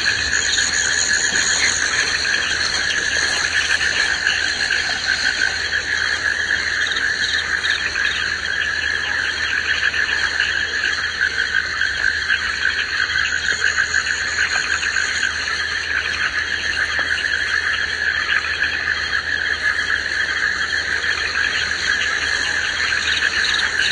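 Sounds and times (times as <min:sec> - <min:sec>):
insects and frogs calling: 0:00.0 - 0:23.9.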